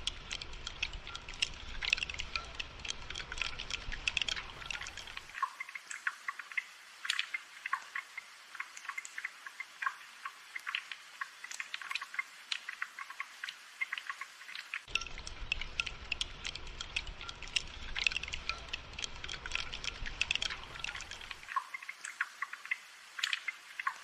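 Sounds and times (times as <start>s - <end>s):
rain dripping: 0.0s - 24.0s.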